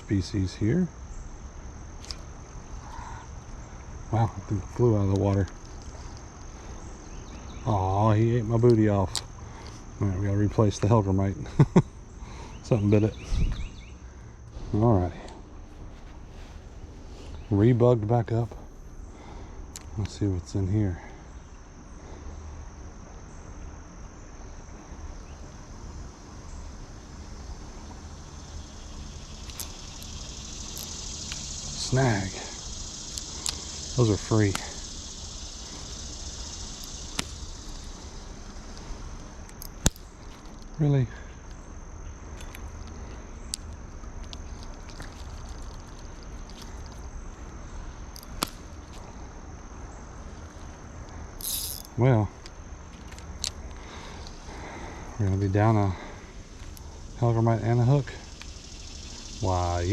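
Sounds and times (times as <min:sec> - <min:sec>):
insects chirping: 0:00.0 - 0:59.9
low outdoor rumble: 0:00.0 - 0:59.9.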